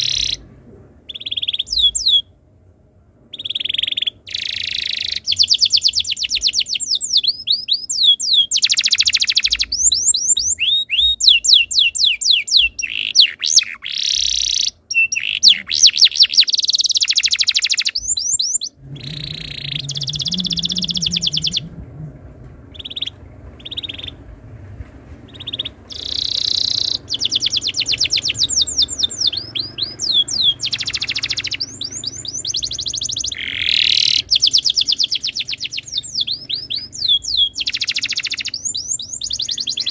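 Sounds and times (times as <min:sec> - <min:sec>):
canary singing trills: 0:00.0 - 0:00.5, 0:01.1 - 0:02.4, 0:03.3 - 0:24.5, 0:25.2 - 0:39.9
faint low hum: 0:00.0 - 0:39.9.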